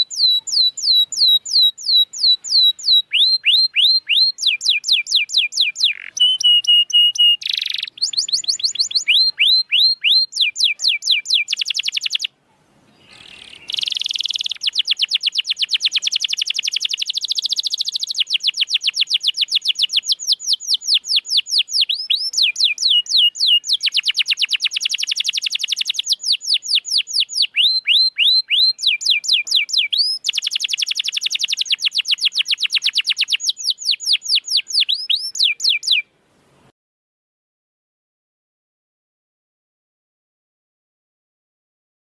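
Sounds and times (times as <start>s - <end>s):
canary singing: 0.0s - 36.1s.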